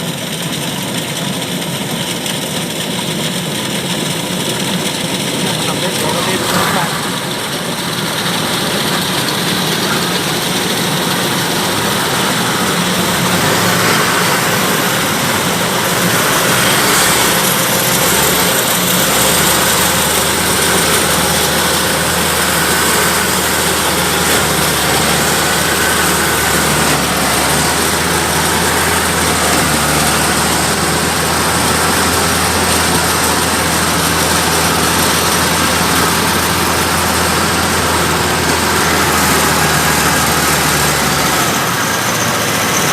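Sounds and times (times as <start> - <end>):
combine harvester running: 0.0 - 42.9
deep low machine hum: 3.6 - 42.8.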